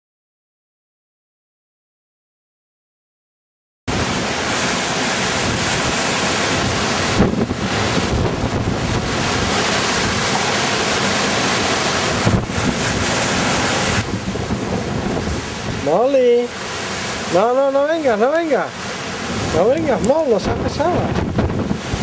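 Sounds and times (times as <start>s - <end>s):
wind buffeting microphone: 3.9s - 22.0s.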